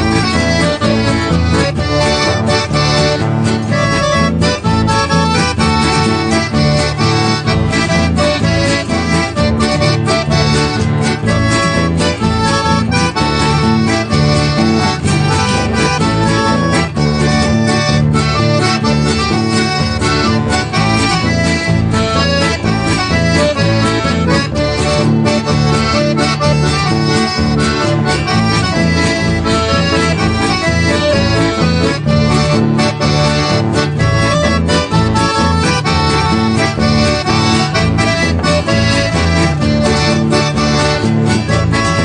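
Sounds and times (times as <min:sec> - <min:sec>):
accordion folk music: 0:00.0 - 0:42.0
guitar and bass accompaniment: 0:00.0 - 0:42.0.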